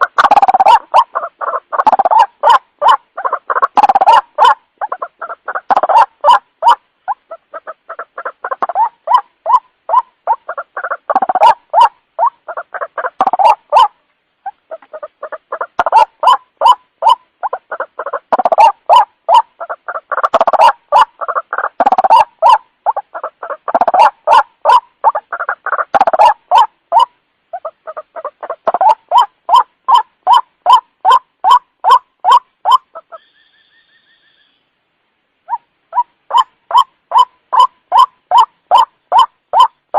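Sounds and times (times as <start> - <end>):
bird harsh repeated calls: 0.0 - 34.8, 35.4 - 39.9.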